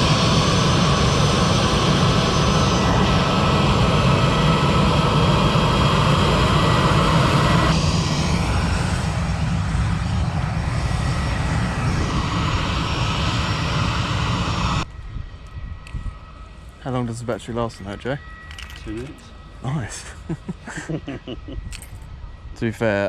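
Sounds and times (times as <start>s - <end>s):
aircraft engines rumbling: 0.0s - 23.0s
high engine whine: 0.0s - 23.0s.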